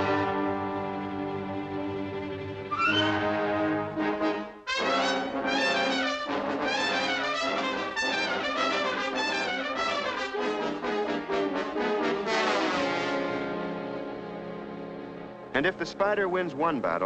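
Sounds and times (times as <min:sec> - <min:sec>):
orchestral music with brass: 0:00.0 - 0:17.0.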